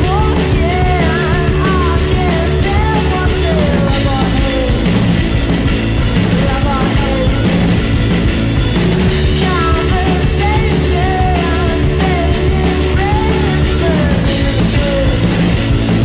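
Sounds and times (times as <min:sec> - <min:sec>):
person singing: 0:00.0 - 0:08.3, 0:09.0 - 0:16.0
drums: 0:00.0 - 0:16.0
guitar: 0:00.0 - 0:16.0.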